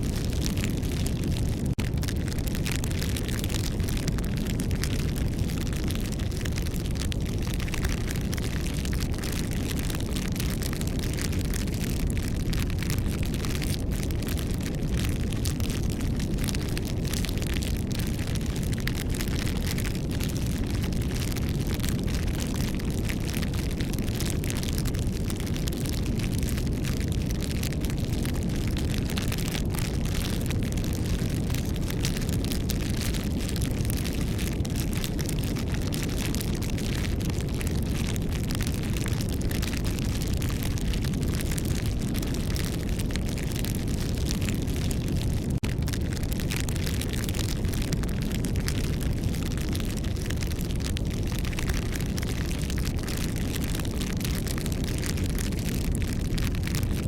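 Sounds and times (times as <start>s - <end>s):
campfire flames rushing: 0.0s - 56.8s
burning wood crackling: 0.0s - 57.0s.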